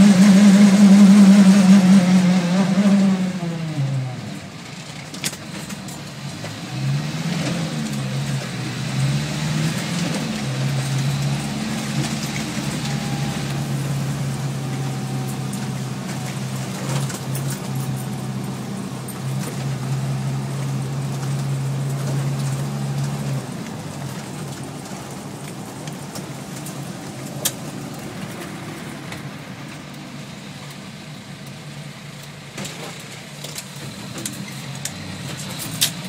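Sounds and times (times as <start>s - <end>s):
vehicle engine pitched hum: 0.0s - 36.0s.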